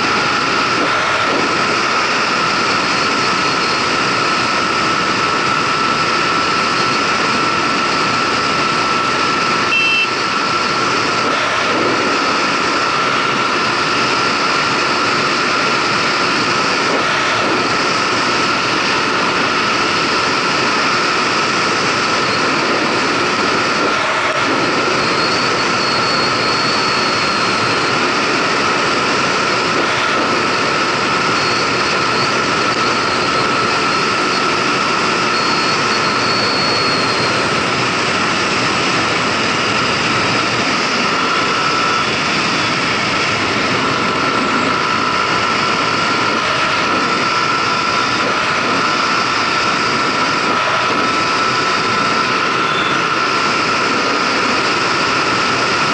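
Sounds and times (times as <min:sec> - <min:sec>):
steady high whine: 0:00.0 - 0:55.9
wind rush on microphone: 0:00.0 - 0:55.9.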